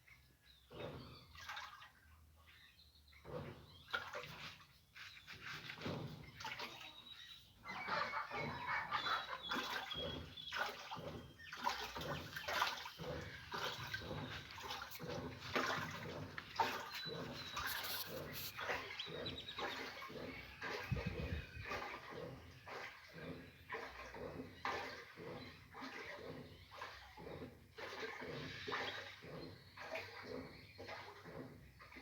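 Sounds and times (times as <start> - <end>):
water sloshing in washing machine: 0.0 - 32.0.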